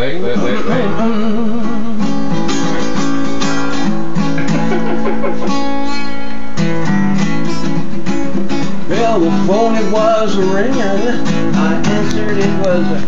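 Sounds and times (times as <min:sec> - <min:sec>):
guitar strummed chords: 0:00.0 - 0:13.0.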